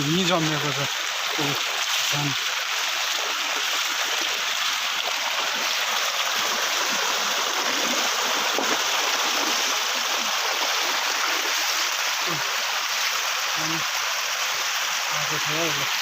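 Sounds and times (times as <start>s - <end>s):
water gushing in a channel: 0.0s - 16.0s.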